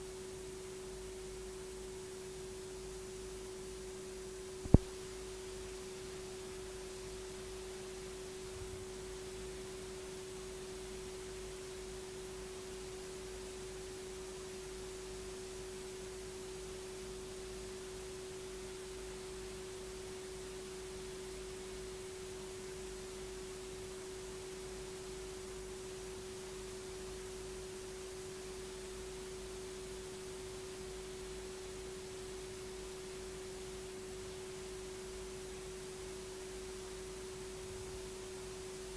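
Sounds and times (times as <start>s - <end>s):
tape hiss: 0.0s - 38.9s.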